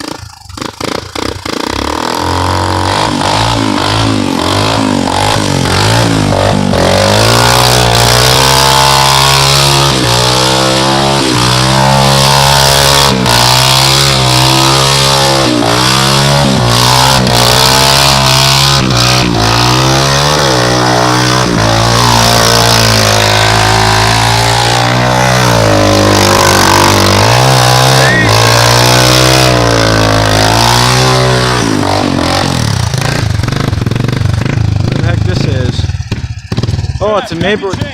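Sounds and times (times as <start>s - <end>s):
atv engine revving: 0.0s - 37.9s.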